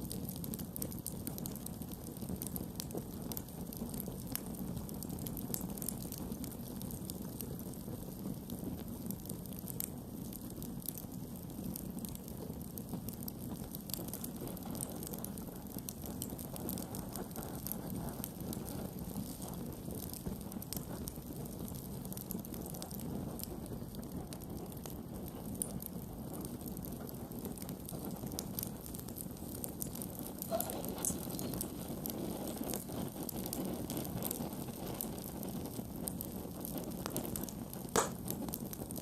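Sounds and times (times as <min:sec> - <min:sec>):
campfire crackling and popping: 0:00.0 - 0:39.0
low rumble of flames: 0:00.0 - 0:39.0.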